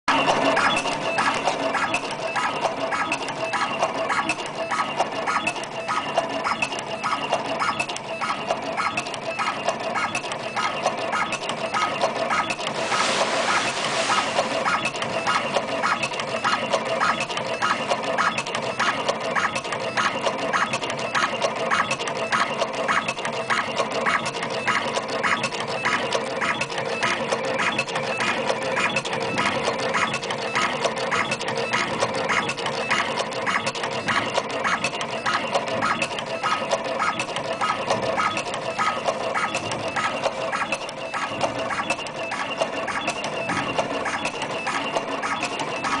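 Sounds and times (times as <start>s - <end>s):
machine clacking: 0.1s - 46.0s
mechanical hum: 0.1s - 46.0s.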